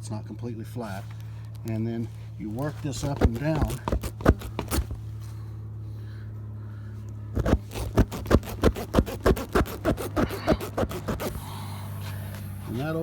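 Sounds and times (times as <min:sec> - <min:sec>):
rasp scraping tire rubber: 0:00.7 - 0:05.4, 0:07.2 - 0:13.0.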